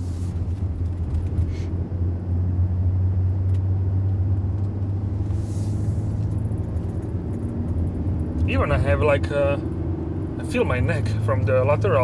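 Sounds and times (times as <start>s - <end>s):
diesel engine hum: 0.0s - 12.0s
road noise: 0.0s - 12.0s.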